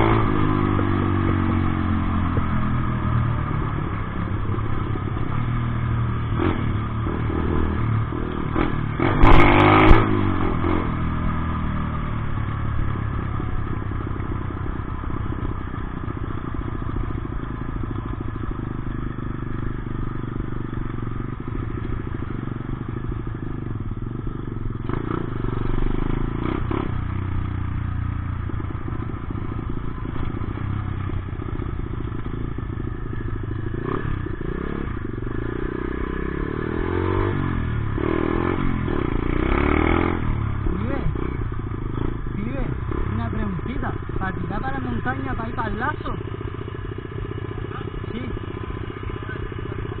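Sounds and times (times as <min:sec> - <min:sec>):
dirt bike engine revving: 0:00.0 - 0:18.6, 0:20.4 - 0:27.7, 0:28.4 - 0:50.0.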